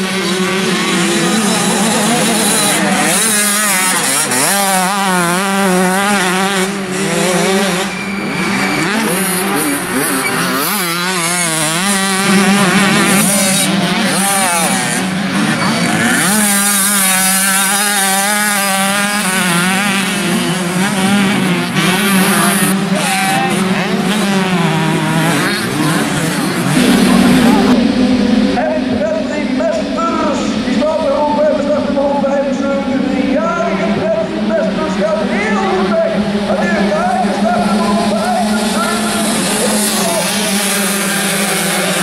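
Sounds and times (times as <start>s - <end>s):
motocross bikes revving: 0.0s - 42.0s
steady engine drone: 0.0s - 42.0s.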